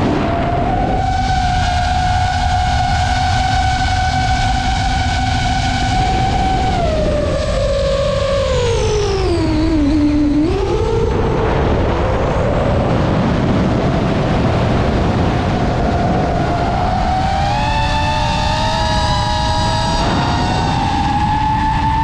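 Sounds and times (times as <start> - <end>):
drone propellers whining: 0.0 - 22.0
wind rumble on microphone: 0.0 - 22.0.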